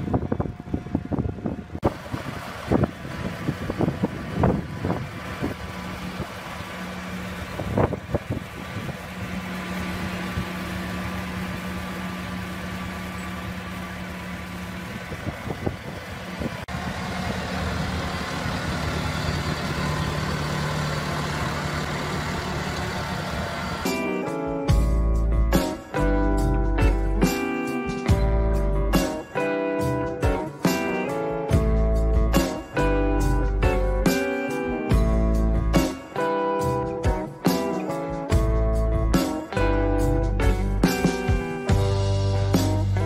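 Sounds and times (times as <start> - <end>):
tractor engine humming: 0.0 - 43.0.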